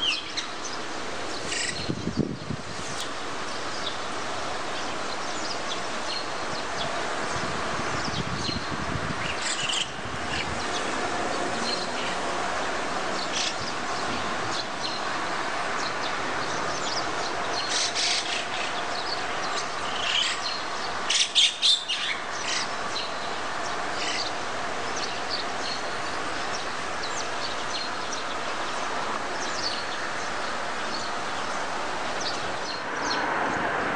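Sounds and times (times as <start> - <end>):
small birds chirping: 0.0 - 12.3, 13.0 - 33.3
steady background hum: 0.0 - 33.9.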